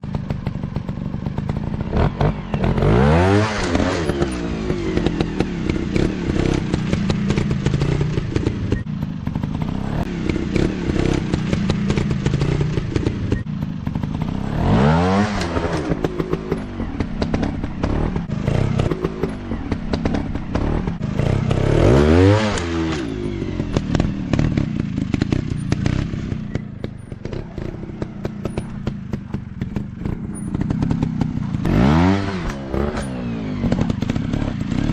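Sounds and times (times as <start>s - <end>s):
dirt bike engines revving: 0.1s - 34.9s.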